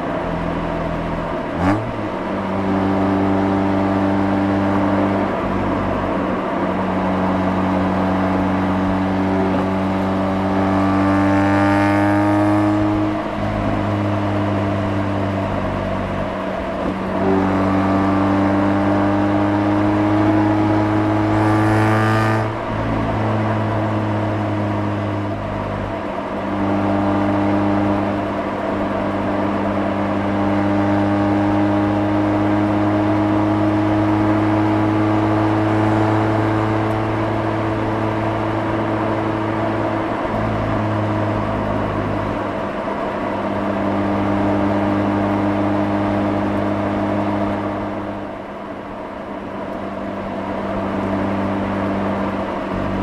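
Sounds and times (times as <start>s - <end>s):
rotary engine revving: 1.3s - 48.4s.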